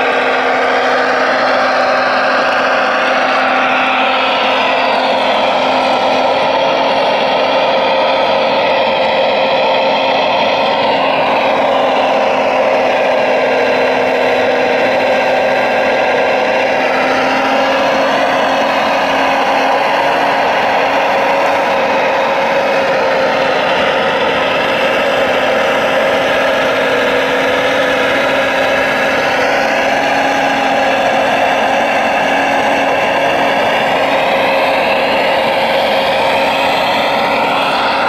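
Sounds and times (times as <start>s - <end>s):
model excavator humming and whining: 0.0s - 38.0s.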